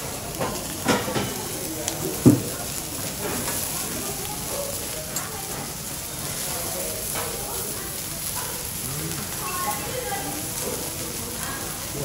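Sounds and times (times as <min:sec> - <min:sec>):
faint voices: 0:00.0 - 0:12.0
meat sizzling on a griddle: 0:00.0 - 0:12.0.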